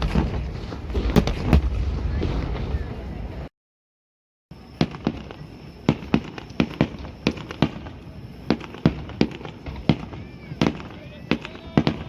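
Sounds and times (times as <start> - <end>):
fireworks bursting with echo: 0.0 - 3.5, 4.5 - 12.0.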